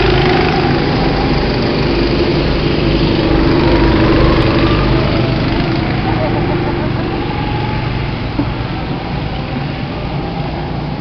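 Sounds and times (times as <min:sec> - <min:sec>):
go-kart engines running: 0:00.0 - 0:11.0.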